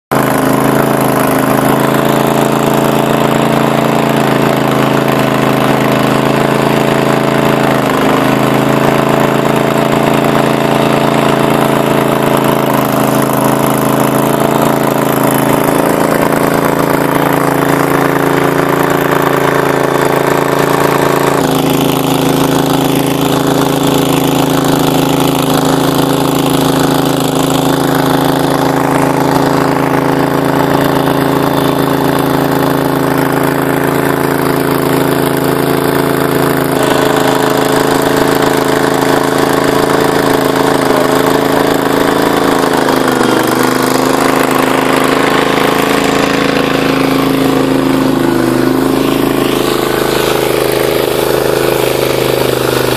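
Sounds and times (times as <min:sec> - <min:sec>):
small pump engine running: 0:00.0 - 0:52.9
nozzle spraying water: 0:00.1 - 0:52.9.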